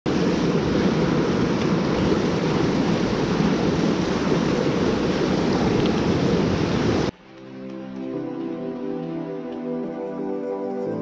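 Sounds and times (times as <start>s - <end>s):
creek water rushing over rocks: 0.1s - 9.9s.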